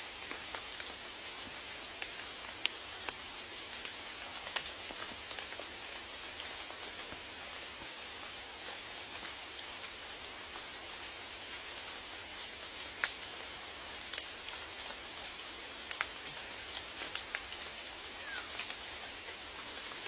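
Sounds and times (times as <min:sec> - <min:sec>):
rain hissing: 0:00.0 - 0:20.0
raindrops tapping close by: 0:00.1 - 0:20.0.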